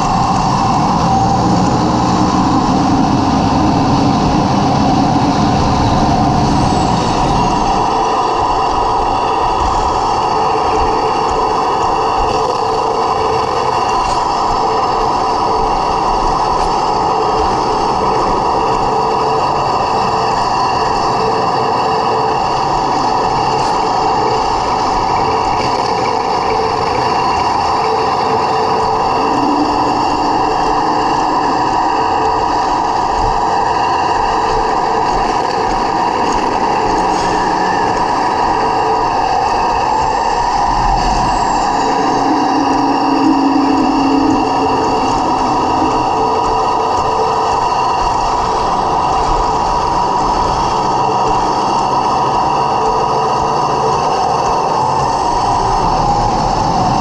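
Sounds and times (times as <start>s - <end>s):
model tank engine drone: 0.0s - 57.0s.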